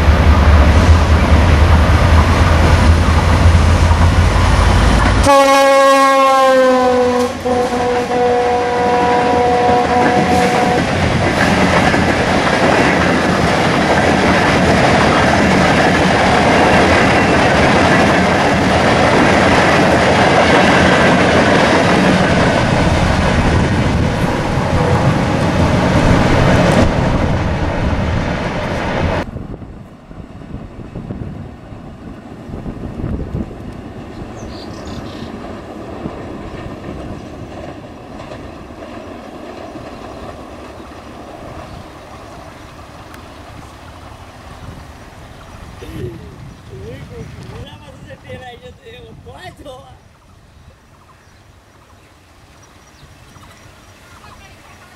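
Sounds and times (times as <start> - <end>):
distant train low rumble: 0.0 - 54.9
train coaches rolling past: 0.0 - 54.9.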